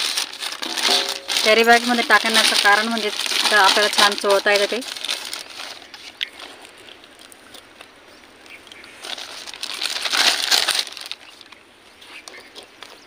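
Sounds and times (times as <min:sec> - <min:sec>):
plastic bag rustling: 0:00.0 - 0:07.2, 0:08.9 - 0:12.2.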